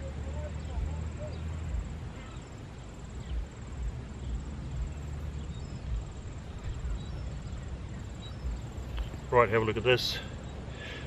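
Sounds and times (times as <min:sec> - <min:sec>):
low uneven rumble: 0:00.0 - 0:11.0.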